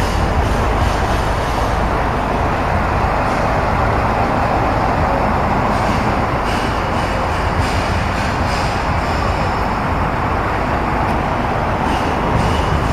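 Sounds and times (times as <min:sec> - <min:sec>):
traffic rumble and hiss: 0:00.0 - 0:12.9.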